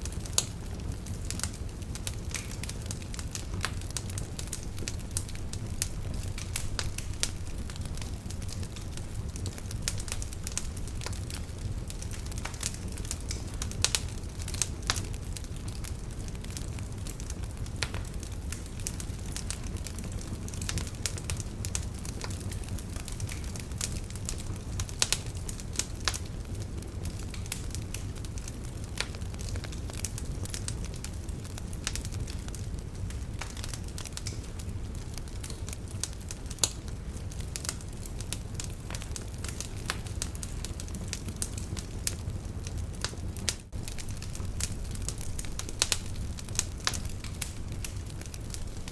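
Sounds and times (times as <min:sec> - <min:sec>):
burning logs crackling and popping: 0:00.0 - 0:48.9
fire flames rumbling: 0:00.0 - 0:48.9.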